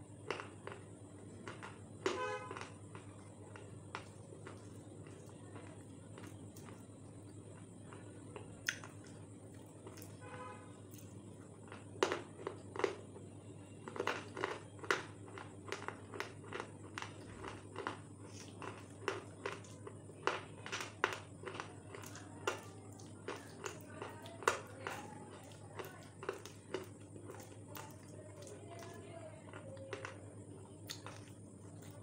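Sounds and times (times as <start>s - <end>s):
crunching brittle food: 0.0s - 32.0s
low background hum: 0.0s - 32.0s.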